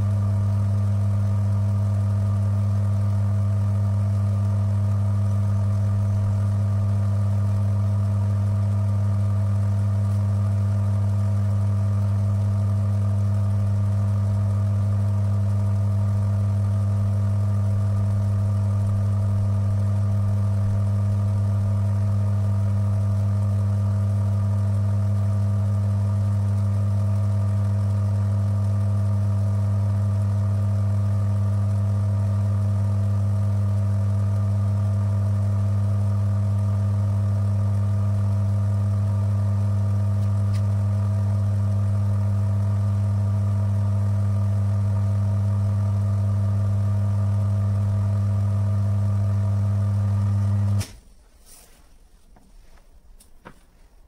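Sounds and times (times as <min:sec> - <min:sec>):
electric motor humming: 0:00.0 - 0:50.8.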